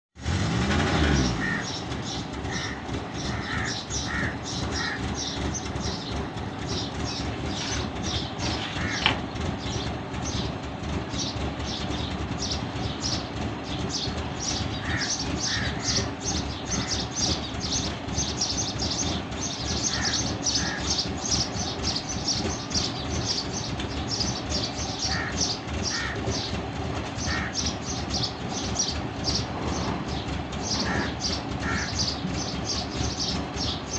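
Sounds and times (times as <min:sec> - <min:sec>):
car engine starting and idling: 0:00.2 - 0:33.9
birds chirping: 0:00.8 - 0:33.9.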